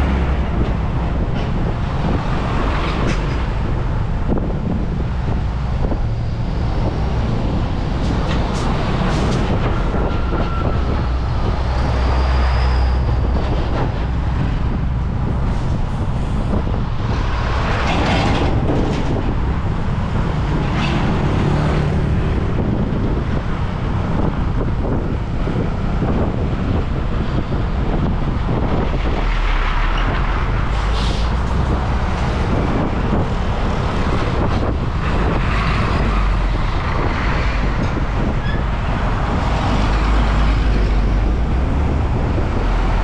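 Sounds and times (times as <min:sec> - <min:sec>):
trucks passing close: 0:00.0 - 0:43.0.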